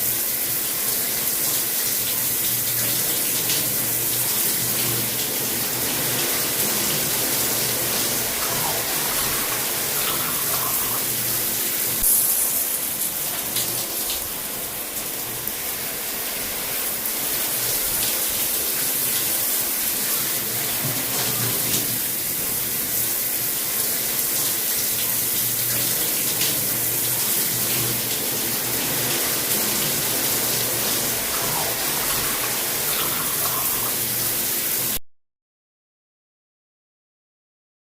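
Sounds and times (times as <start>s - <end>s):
shower water spraying: 0.0s - 35.0s.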